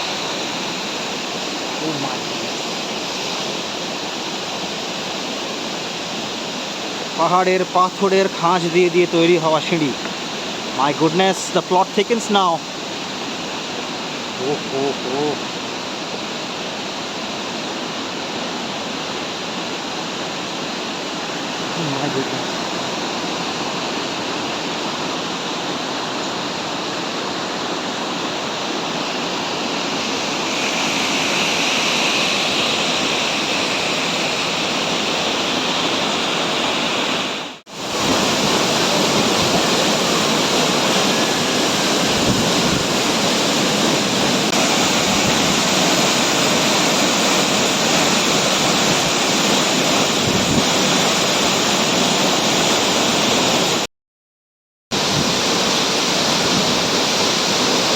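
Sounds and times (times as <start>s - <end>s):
waterfall rushing: 0.0s - 53.9s, 54.9s - 57.9s.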